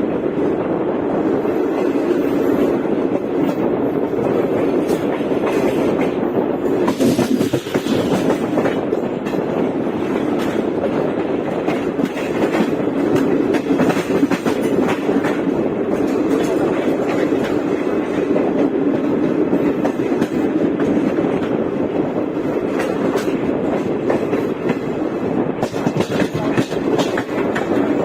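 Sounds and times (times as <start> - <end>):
train coaches rumbling: 0.0 - 28.0
wheels clicking over rail joints: 4.6 - 28.0.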